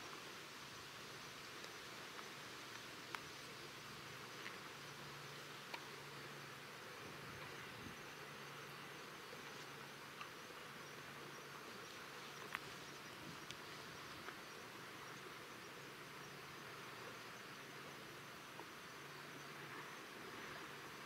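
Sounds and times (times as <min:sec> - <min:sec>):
steady hiss: 0:00.0 - 0:21.0
small ticks: 0:01.3 - 0:06.6, 0:08.4 - 0:20.6.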